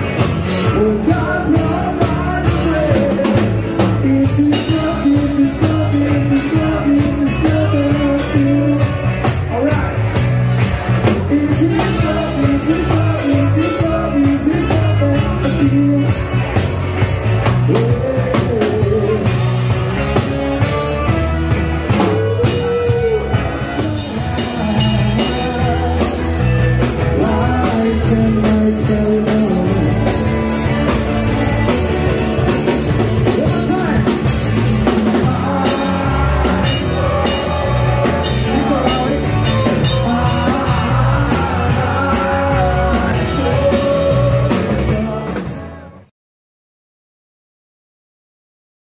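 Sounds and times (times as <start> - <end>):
man singing: 0.0 - 16.7, 17.4 - 19.8, 20.6 - 46.0
acoustic guitar: 0.0 - 45.9
bass guitar: 0.0 - 46.1
drum kit: 0.0 - 46.1.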